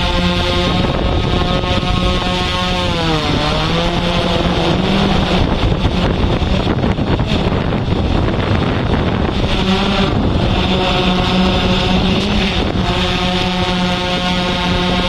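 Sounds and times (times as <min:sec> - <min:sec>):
drone propellers whirring: 0:00.0 - 0:15.0
rough rushing noise: 0:00.0 - 0:15.0.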